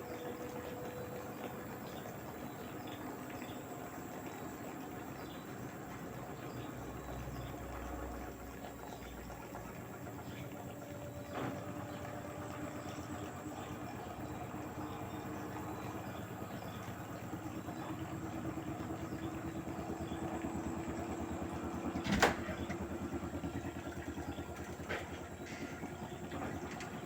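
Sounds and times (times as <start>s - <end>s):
washing machine running: 0.0s - 27.0s.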